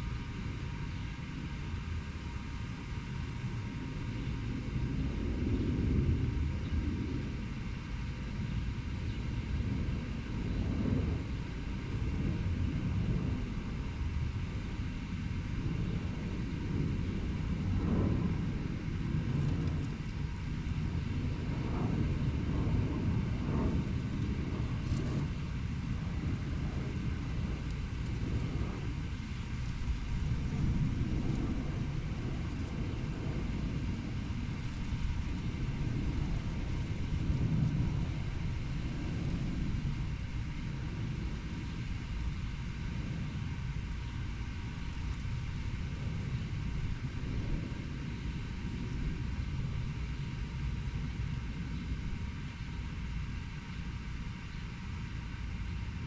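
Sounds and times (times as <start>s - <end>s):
distant road traffic rumble: 0.0s - 56.0s.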